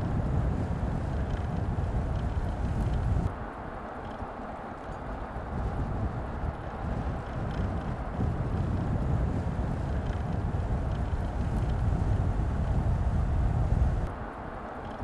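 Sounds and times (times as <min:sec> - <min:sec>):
wind on microphone: 0:00.0 - 0:04.4, 0:05.0 - 0:15.0
engine and tyre rumble: 0:00.0 - 0:15.0.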